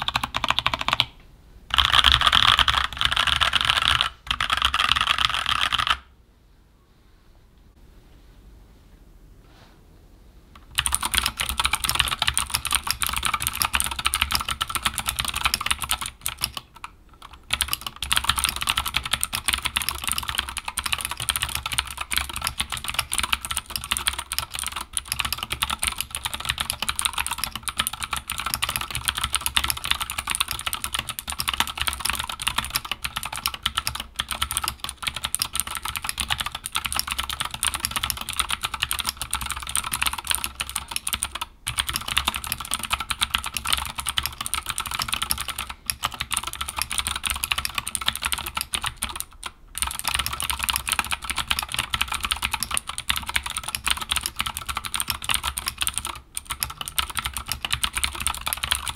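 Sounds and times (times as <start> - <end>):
fast typing on clicky keyboard: 0.0 - 1.1, 1.7 - 6.1, 10.6 - 58.9.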